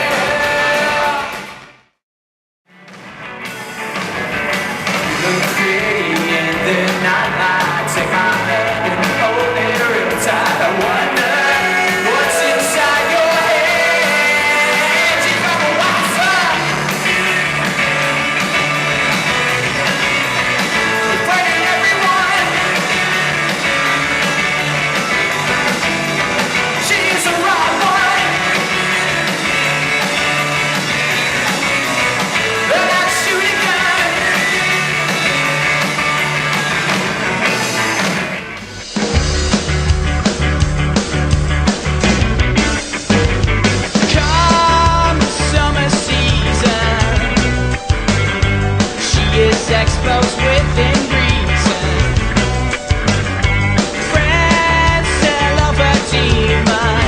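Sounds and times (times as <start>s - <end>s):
bass guitar: 0.0s - 1.7s, 2.7s - 57.0s
rock song with singing: 0.0s - 1.7s, 2.8s - 57.0s.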